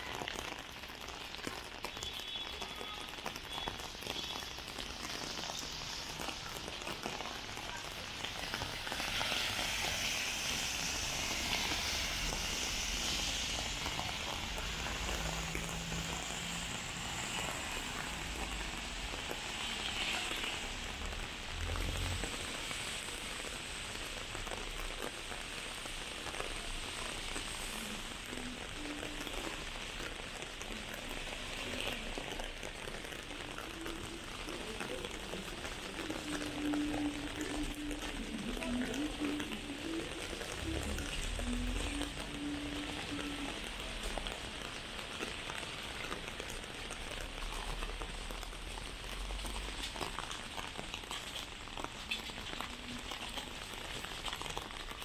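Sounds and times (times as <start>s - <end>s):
heavy rain on street: 0.0s - 55.0s.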